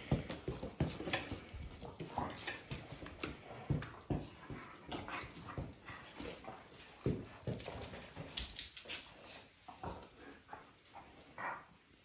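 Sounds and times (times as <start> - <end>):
paws and bodies scuffling on floor: 0.0 - 12.0.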